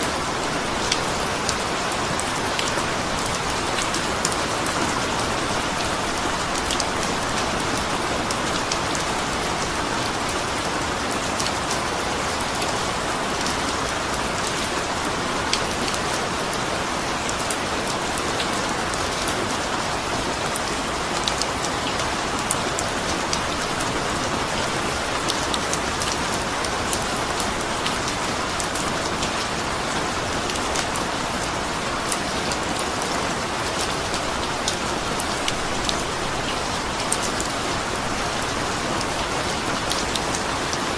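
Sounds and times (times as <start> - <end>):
raindrops ticking on a surface: 0.0 - 40.9
steady rain falling: 0.0 - 40.9.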